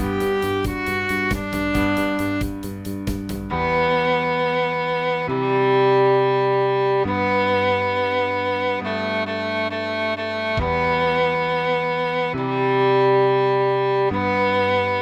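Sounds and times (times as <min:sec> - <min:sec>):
cello slow bowed melody: 0:00.0 - 0:15.0.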